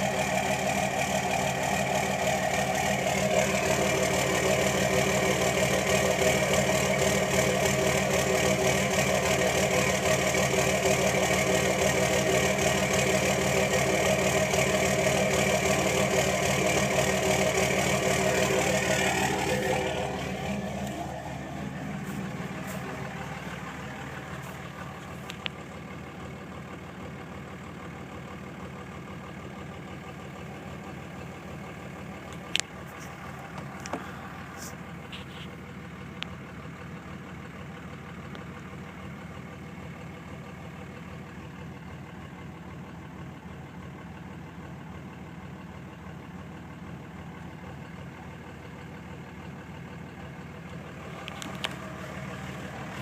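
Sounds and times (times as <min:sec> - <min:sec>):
diesel engine idling roughly: 0:00.0 - 0:53.0.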